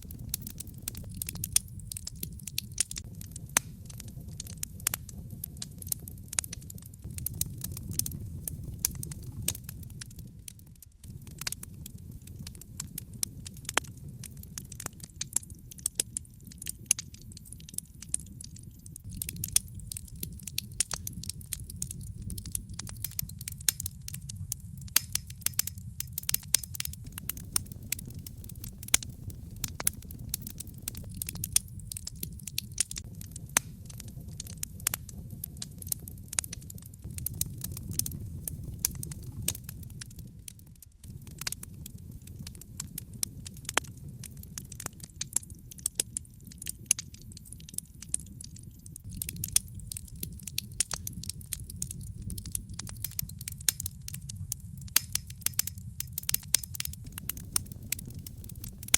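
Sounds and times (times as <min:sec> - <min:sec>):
low fire rumble: 0:00.0 - 0:58.9
wood fire crackling and popping: 0:00.0 - 0:58.9.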